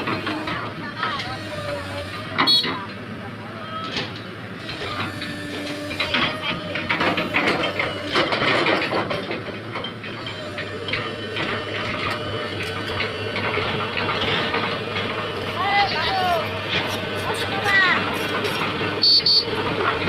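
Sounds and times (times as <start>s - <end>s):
excavator engine hum: 0.0s - 20.0s.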